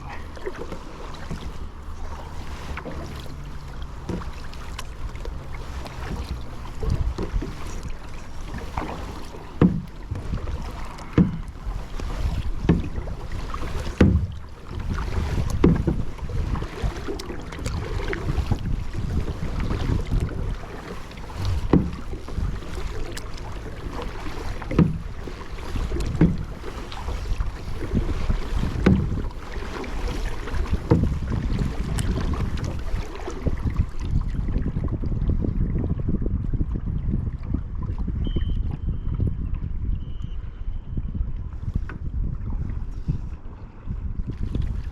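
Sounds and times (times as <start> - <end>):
paddle splashing in water: 0.0 - 40.4, 41.6 - 44.9
water against hull: 0.0 - 44.9
wind on microphone: 0.0 - 44.9.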